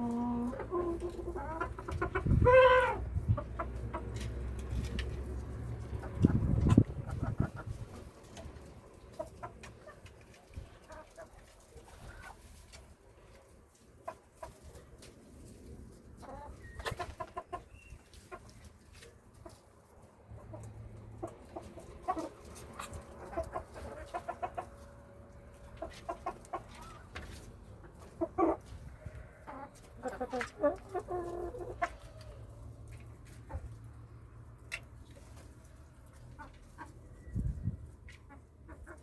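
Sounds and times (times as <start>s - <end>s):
hens clucking: 0.0s - 39.0s.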